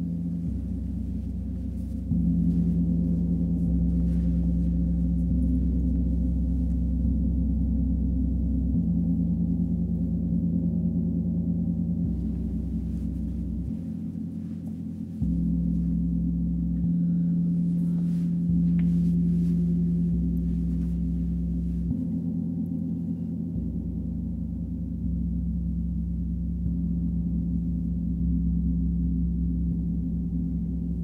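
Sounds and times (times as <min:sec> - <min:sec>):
gongs struck with mallets: 0:00.0 - 0:31.0.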